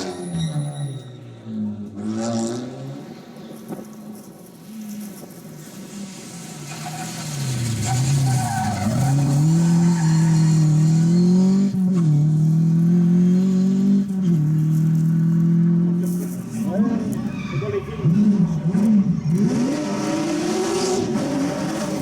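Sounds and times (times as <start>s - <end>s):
rally car engine accelerating: 1.5s - 3.9s, 4.6s - 22.0s.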